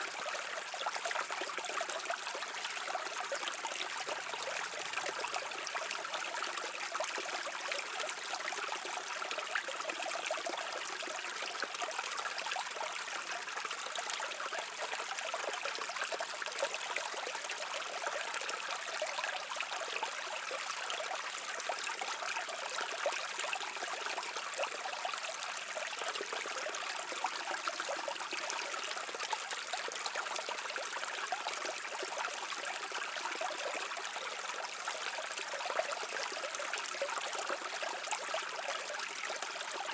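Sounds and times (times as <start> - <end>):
brook babbling over rocks: 0.0 - 39.9.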